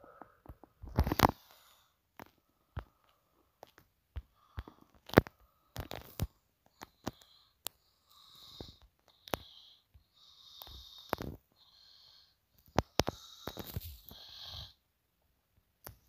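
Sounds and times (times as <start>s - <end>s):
soft breathing hisses: 1.1s - 14.8s.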